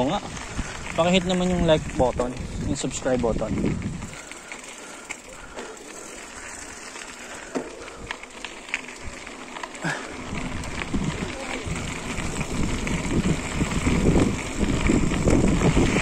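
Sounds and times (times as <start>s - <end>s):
wind buffeting microphone: 0.0s - 9.4s, 10.0s - 16.0s
bike tyres crunching on gravel: 0.0s - 16.0s.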